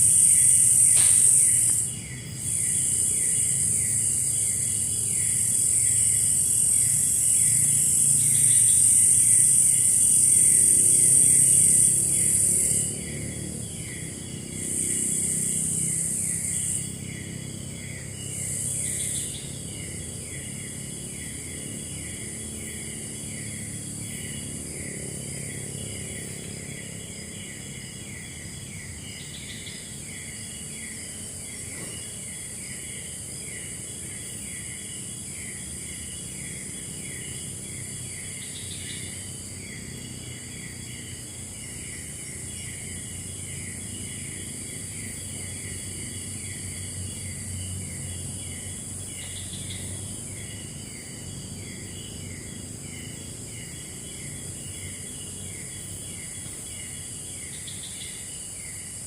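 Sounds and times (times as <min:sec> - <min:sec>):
insect chirping: 0:00.0 - 0:59.0
insects buzzing: 0:00.0 - 0:59.0.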